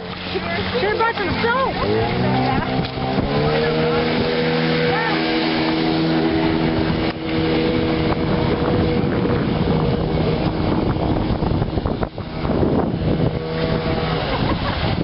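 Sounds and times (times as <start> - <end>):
boat motor running: 0.0 - 15.0
wind noise on microphone: 0.0 - 15.0.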